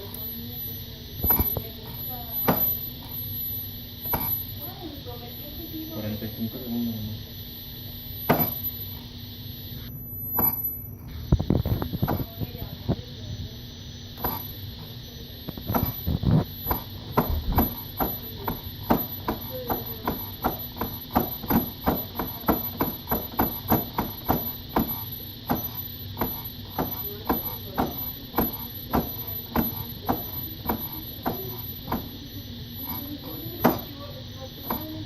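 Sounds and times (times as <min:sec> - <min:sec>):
faint high whine: 0:00.0 - 0:35.0
steady hum: 0:00.0 - 0:35.0.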